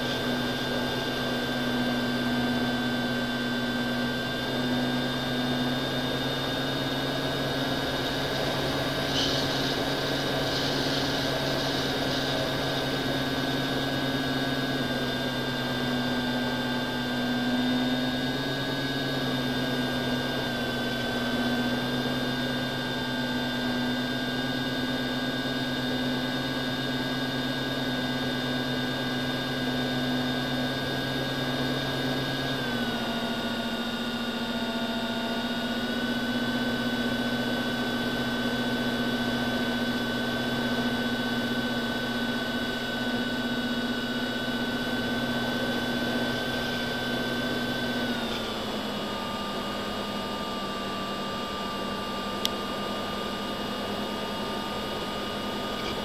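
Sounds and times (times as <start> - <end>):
electric motor and propeller whine: 0.0 - 56.0.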